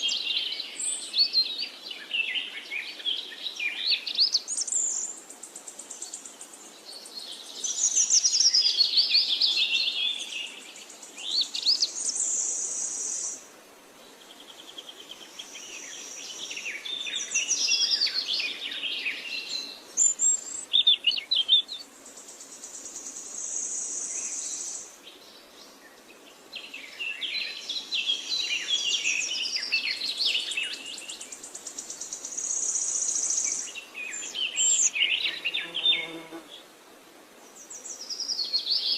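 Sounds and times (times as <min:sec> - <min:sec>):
small birds chirping: 0:00.0 - 0:36.7, 0:37.4 - 0:38.9.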